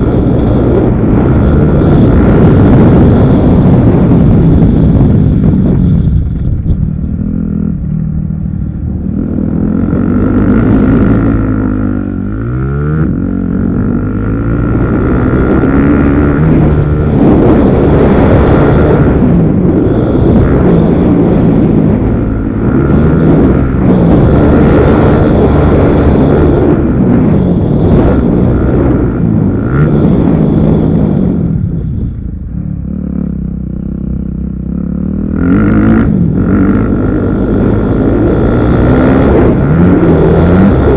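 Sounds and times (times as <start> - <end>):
motorcycle engines revving: 0.0 - 40.9
steady high whine: 0.0 - 40.9.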